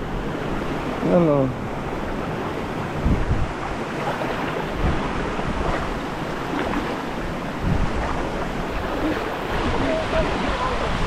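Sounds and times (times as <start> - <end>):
river water rushing over rocks: 0.0 - 11.0
wind buffeting microphone: 0.0 - 11.0.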